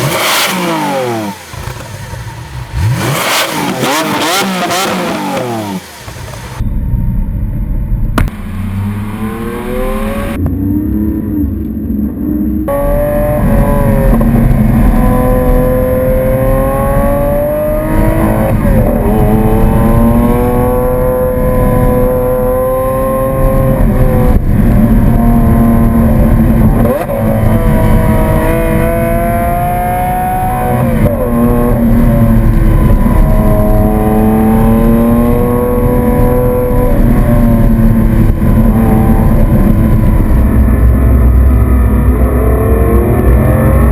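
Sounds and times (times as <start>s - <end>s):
car engine revving hard: 0.0s - 6.6s, 8.4s - 11.7s, 12.6s - 43.9s.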